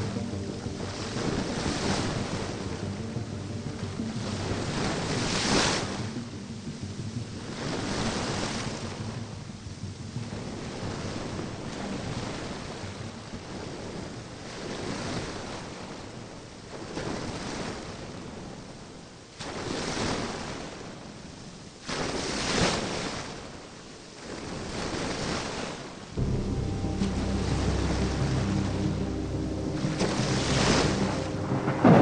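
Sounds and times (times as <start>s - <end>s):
ocean waves surf: 0.0s - 21.1s, 24.2s - 32.0s.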